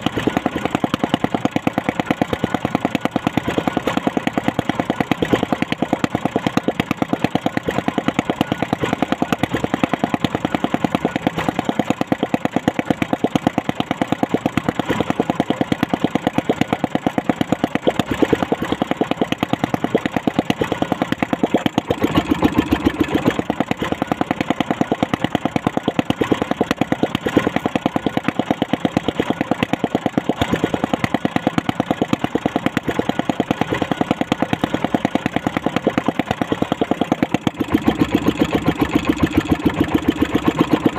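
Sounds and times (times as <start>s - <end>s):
boat engine idling: 0.0s - 40.9s.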